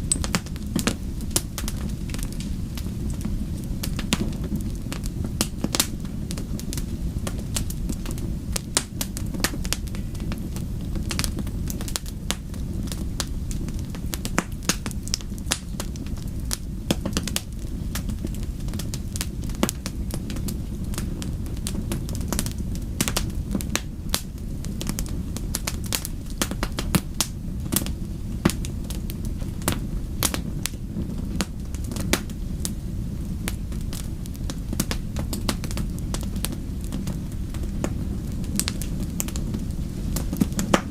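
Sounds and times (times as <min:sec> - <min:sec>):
fire crackling and popping: 0:00.0 - 0:40.9
low rumble of flames: 0:00.0 - 0:40.9.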